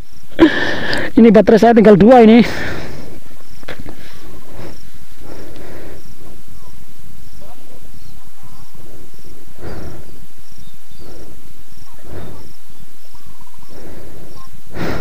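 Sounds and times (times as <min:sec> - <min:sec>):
insect chirping: 0:00.0 - 0:15.0
low rumbling noise: 0:02.4 - 0:15.0.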